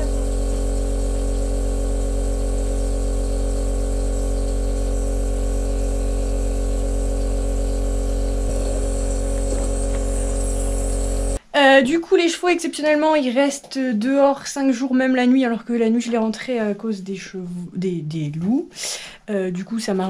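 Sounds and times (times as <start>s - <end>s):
low electrical hum: 0.0s - 18.7s.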